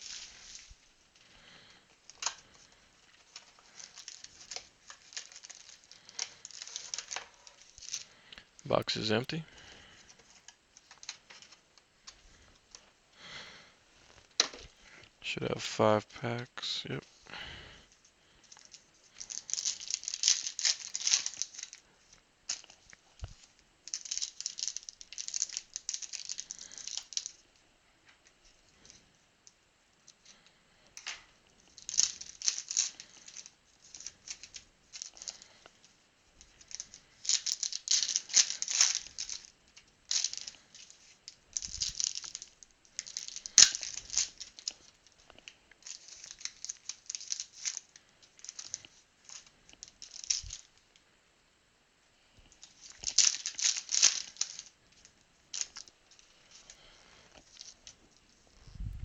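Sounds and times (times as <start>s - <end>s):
foil wrappers crackling and rustling: 0.0s - 15.0s, 15.9s - 50.9s, 52.5s - 58.8s.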